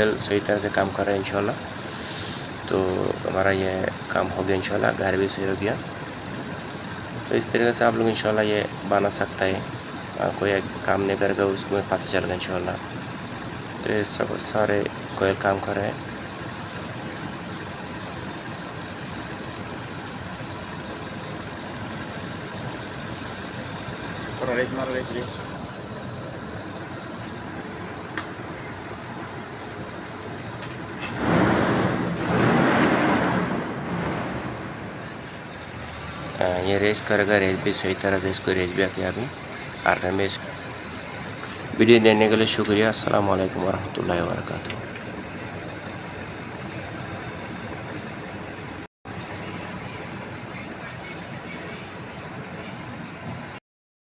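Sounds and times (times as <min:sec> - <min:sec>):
car engine idling and revving: 0:00.0 - 0:53.6.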